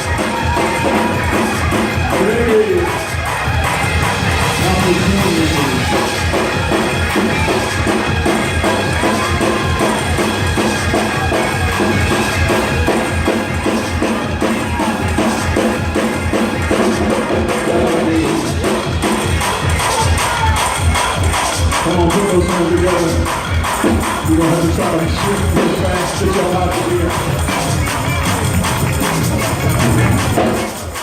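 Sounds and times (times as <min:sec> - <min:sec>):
bass: 0:00.0 - 0:31.0
fast drum-kit beat: 0:00.0 - 0:31.0
live church band music: 0:00.0 - 0:31.0.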